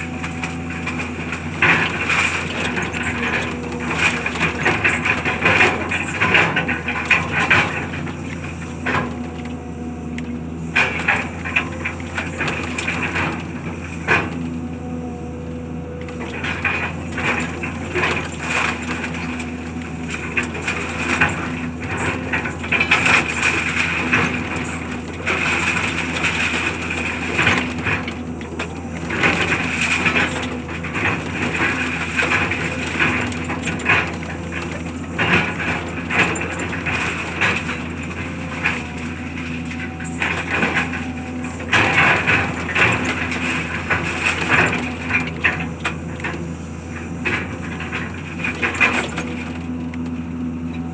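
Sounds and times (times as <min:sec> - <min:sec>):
debris cracking and knocking: 0:00.0 - 0:50.8
demolition machinery humming: 0:00.0 - 0:50.9.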